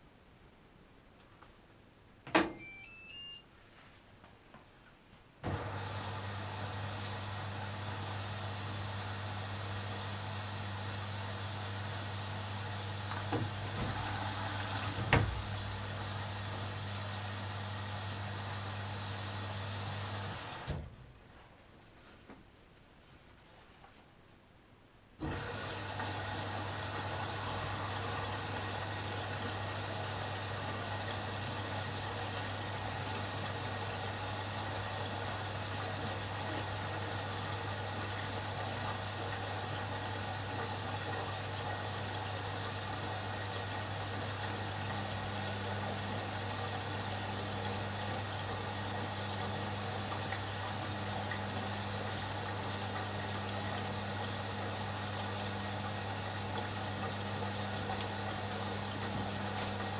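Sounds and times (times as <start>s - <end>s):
washing machine hum: 2.3s - 3.4s, 5.4s - 21.1s, 25.2s - 59.9s.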